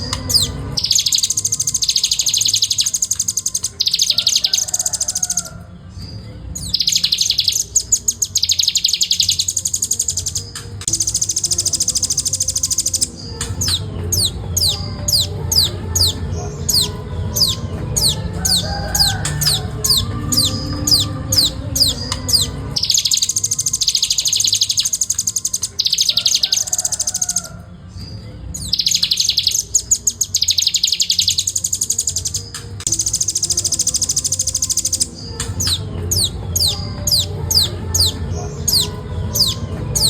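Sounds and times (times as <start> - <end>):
bird singing high notes and trills: 0.0 - 40.0.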